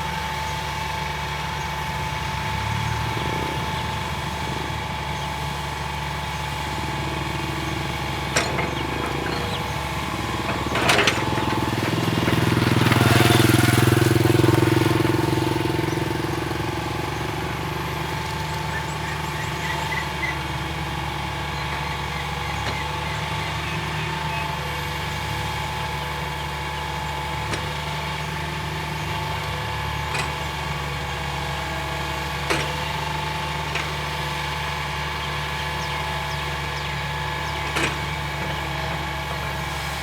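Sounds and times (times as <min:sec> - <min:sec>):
excavator diesel engine: 0:00.0 - 0:40.0.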